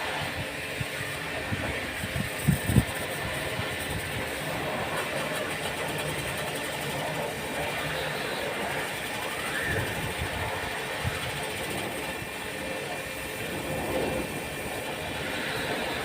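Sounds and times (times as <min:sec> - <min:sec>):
machine running noise: 0:00.0 - 0:16.0.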